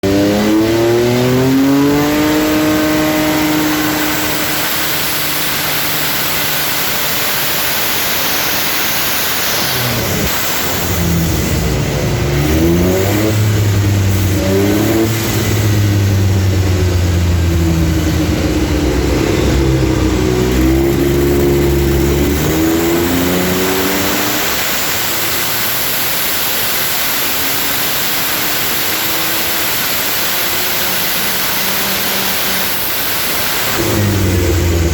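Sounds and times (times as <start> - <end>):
race engine revving: 0.0 - 34.9.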